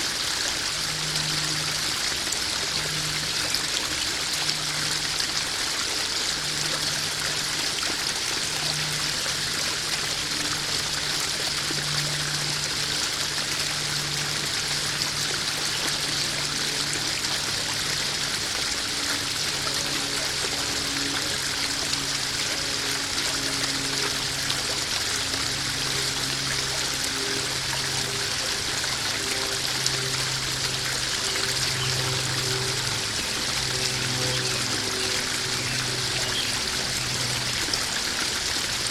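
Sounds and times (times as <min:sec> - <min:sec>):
waterfall splashing into pond: 0:00.0 - 0:38.9.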